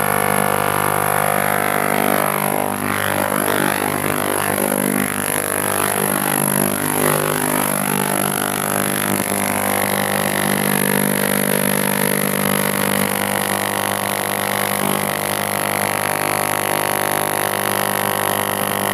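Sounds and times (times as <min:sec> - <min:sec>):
ultrasonic cleaner buzzing: 0:00.0 - 0:18.9.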